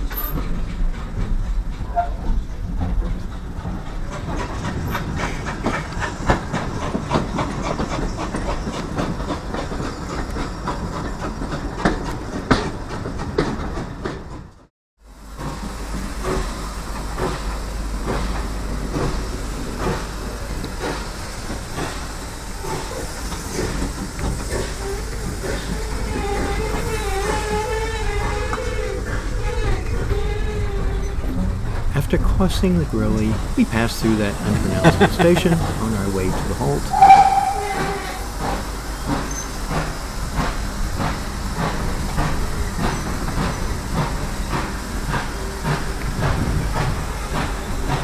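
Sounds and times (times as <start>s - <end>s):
train coach rumble: 0.0s - 48.0s
wheels clattering on rails: 0.0s - 48.0s.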